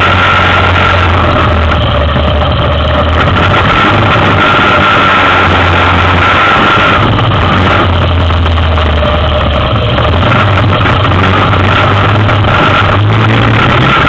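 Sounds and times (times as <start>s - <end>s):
quad bike engine running: 0.0s - 14.0s.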